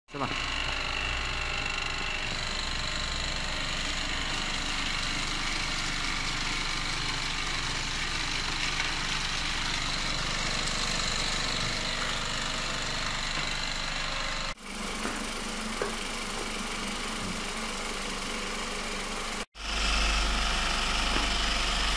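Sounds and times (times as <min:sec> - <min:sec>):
vibration motor hum and rattle: 0:00.1 - 0:21.9.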